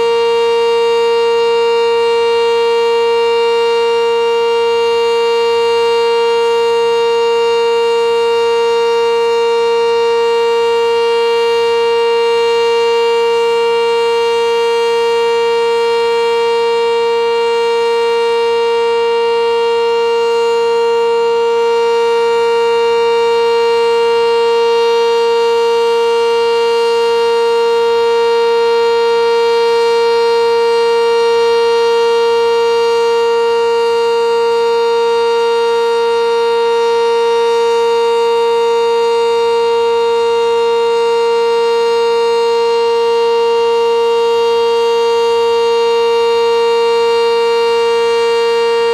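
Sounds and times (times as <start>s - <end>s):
loud steady warning siren: 0.0s - 48.9s.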